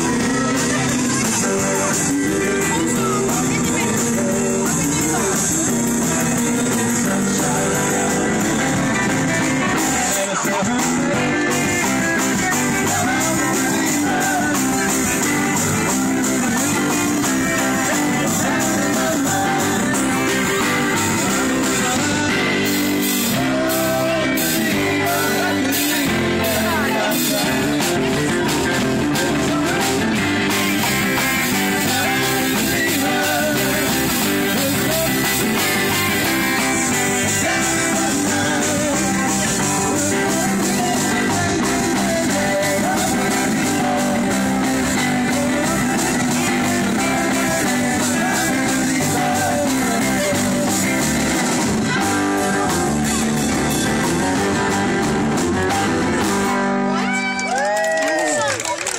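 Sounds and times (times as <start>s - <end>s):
rock and roll music: 0.0s - 58.5s.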